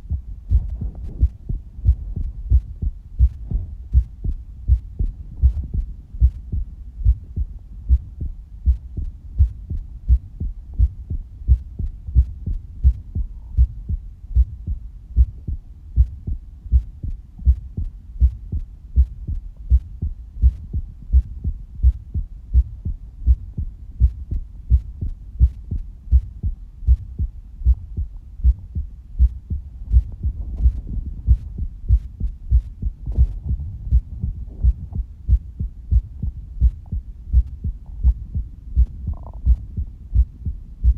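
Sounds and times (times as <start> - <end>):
amplified heartbeat thumps: 0.0 - 40.9.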